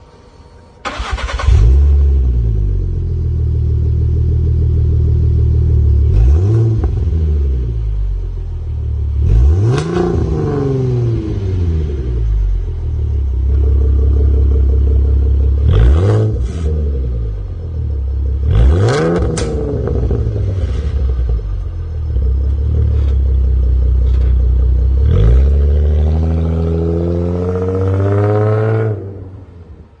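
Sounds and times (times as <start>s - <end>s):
car engine starting: 0.0s - 30.0s
car engine idling and revving: 0.8s - 30.0s.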